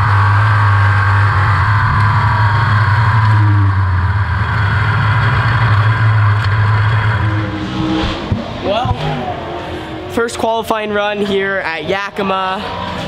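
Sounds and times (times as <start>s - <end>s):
race car engine droning: 0.0s - 13.0s.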